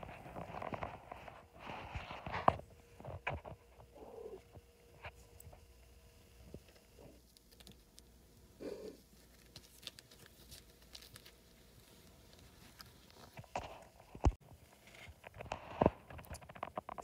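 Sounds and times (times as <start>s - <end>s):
kittens' paws rustling on bedding: 0.0s - 8.2s, 8.9s - 16.7s.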